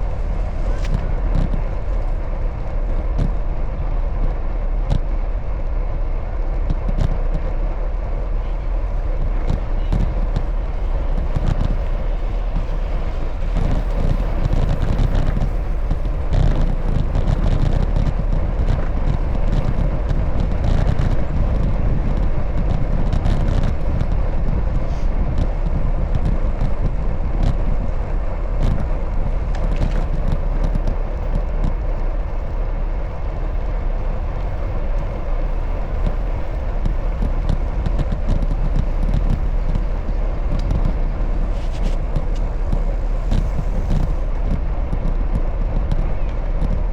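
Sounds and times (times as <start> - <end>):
wind and road rush: 0.0 - 46.9.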